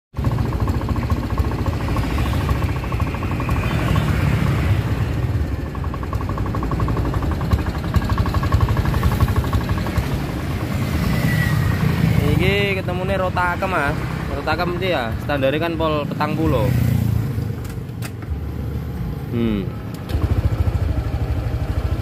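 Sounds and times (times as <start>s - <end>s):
scooter engine running: 0.1s - 22.0s.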